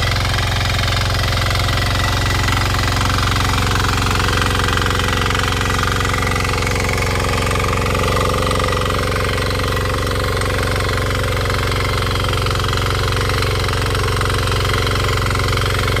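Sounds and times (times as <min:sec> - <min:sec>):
power weeder engine running: 0:00.0 - 0:16.0.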